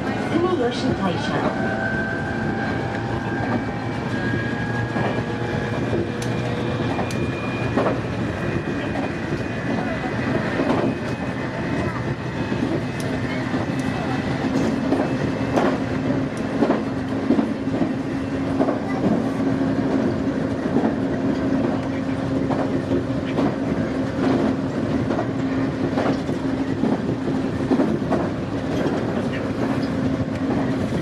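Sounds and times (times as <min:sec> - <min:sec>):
train running rumble and hum: 0:00.0 - 0:31.0.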